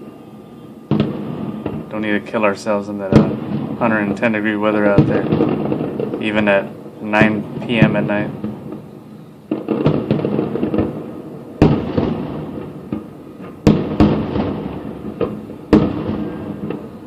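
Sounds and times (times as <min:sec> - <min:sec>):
fireworks crackle: 0:00.0 - 0:17.0
fireworks bangs with rumble: 0:00.8 - 0:17.0.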